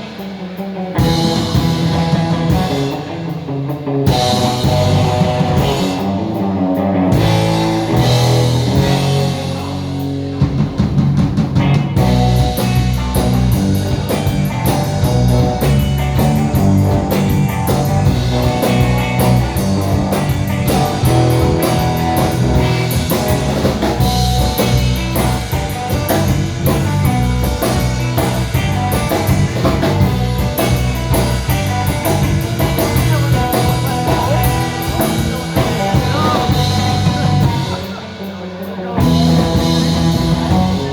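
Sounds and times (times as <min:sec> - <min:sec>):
rock band playing instrumental: 0:00.0 - 0:40.9.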